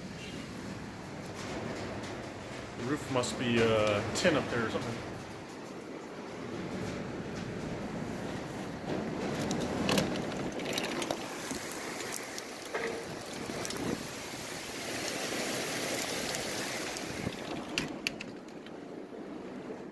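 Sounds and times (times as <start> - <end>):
heavy rain falling: 0.0 - 19.9
hailstones ticking on tin roof: 0.5 - 19.9.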